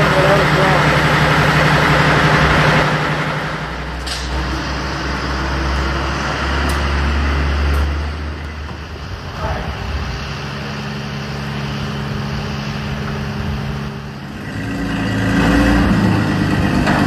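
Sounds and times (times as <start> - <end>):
deep rumble: 0.0 - 17.0
jet aircraft drone: 0.0 - 17.0.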